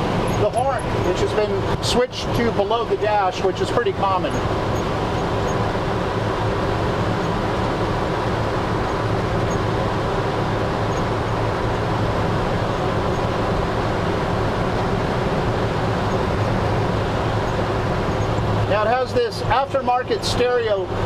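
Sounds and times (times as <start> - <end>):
truck engine humming: 0.0 - 21.0.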